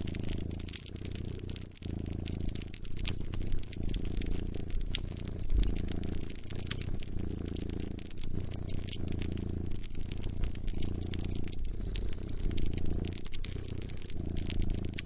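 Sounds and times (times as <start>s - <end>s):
cat purring: 0.0s - 15.0s
fire crackling: 0.0s - 15.0s.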